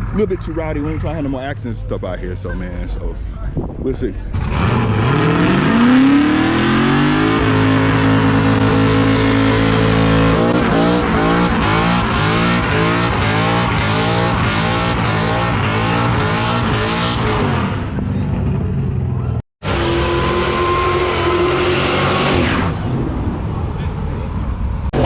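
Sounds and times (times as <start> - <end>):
car engine revving: 4.3 - 25.0.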